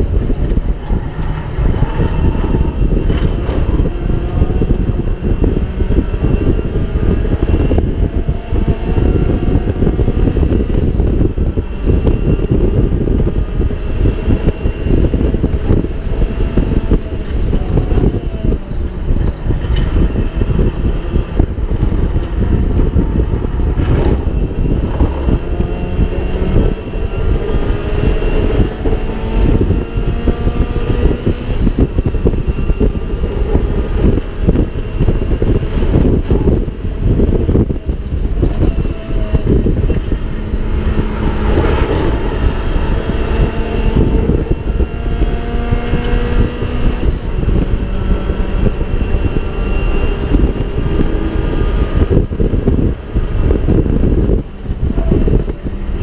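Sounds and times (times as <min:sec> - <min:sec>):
race car engine revving: 0:00.0 - 0:56.0
wind and road buffeting: 0:00.0 - 0:56.0.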